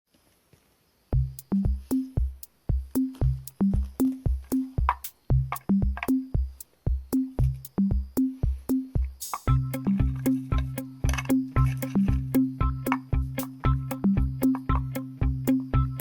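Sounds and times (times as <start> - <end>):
electronic drum machine beat: 1.2 - 16.0
short bass notes: 1.2 - 16.0.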